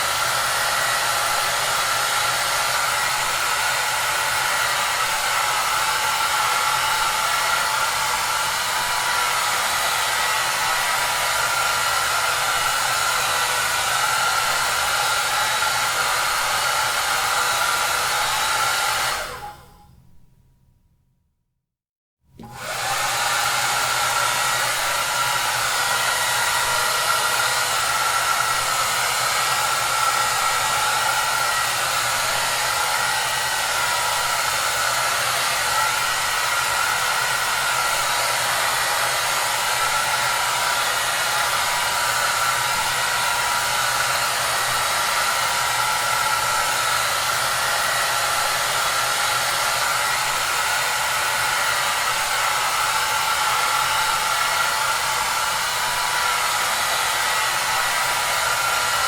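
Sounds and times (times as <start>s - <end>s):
hair dryer running: 0.0s - 19.8s, 22.4s - 59.0s.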